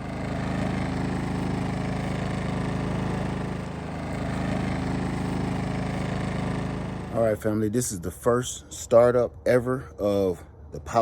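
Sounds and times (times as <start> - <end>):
generator engine running: 0.0 - 9.4.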